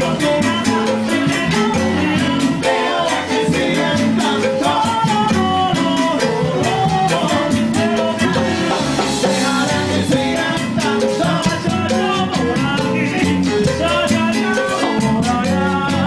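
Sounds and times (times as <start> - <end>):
rhythmic percussion: 0.0 - 16.0
salsa dance band playing: 0.0 - 16.0.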